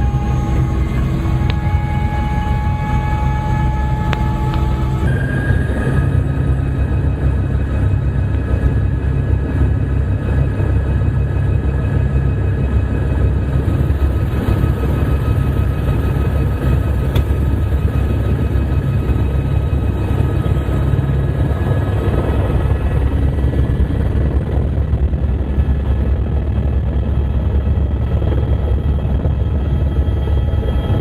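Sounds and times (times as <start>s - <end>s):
helicopter rotor and engine: 0.0s - 31.0s
high turbine whine: 0.0s - 31.0s.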